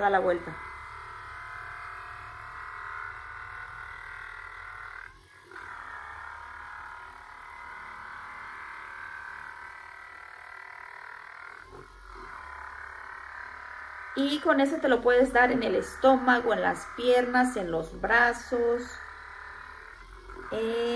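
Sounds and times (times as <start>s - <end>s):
electric massager motor buzz: 0.0s - 20.9s.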